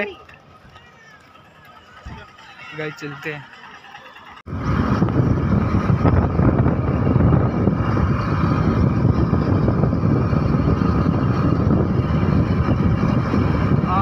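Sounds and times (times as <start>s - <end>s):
wind buffeting microphone: 0.0s - 3.4s, 4.4s - 14.0s
motorcycle engine rumble: 0.0s - 14.0s.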